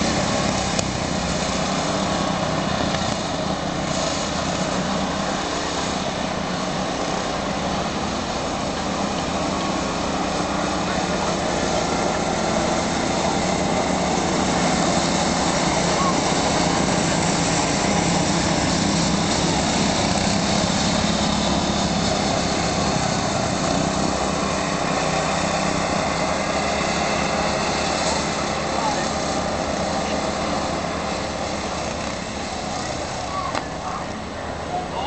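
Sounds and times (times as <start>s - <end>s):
go-kart engines droning: 0.0s - 35.0s.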